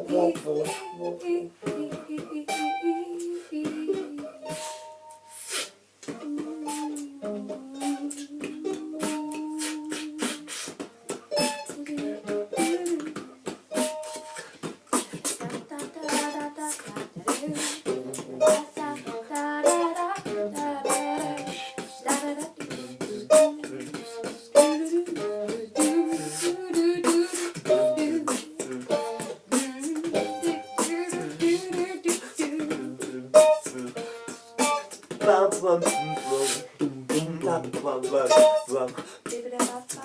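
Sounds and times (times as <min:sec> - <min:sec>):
hummed melody: 0:00.0 - 0:05.4, 0:06.0 - 0:14.4, 0:15.4 - 0:38.9
beatboxing percussive clicks: 0:05.4 - 0:40.0.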